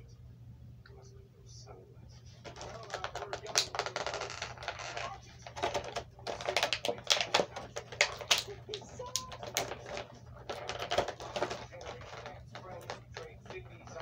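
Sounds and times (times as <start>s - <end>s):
plastic packaging crinkling: 2.4s - 14.0s.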